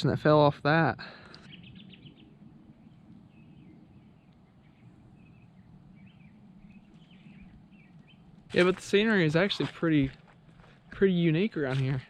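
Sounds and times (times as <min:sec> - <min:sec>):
low steady rumble: 0:00.0 - 0:11.5
birds chirping faintly: 0:01.1 - 0:11.6.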